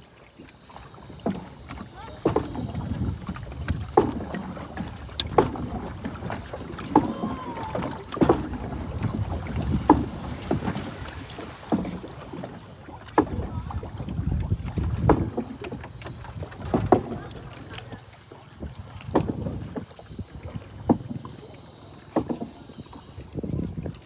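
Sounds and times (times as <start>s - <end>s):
low wash of moving water: 0.0s - 24.0s
paddle splashing and knocking: 0.0s - 24.0s.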